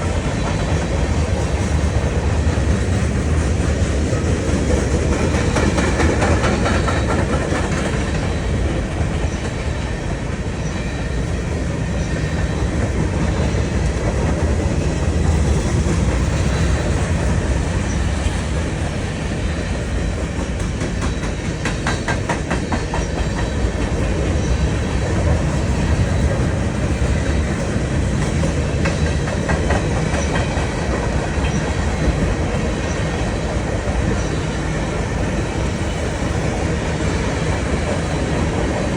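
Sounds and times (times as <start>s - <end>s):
freight train rumbling past: 0.0s - 38.9s
wheels clicking over rail joints: 0.0s - 38.9s.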